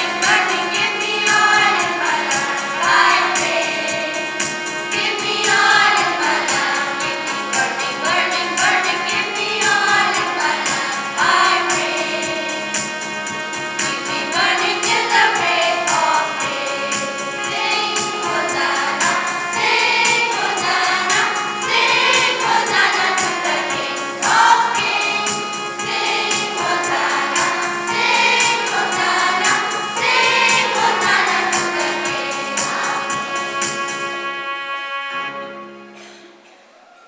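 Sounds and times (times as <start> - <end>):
choir singing a hymn: 0.0 - 36.5.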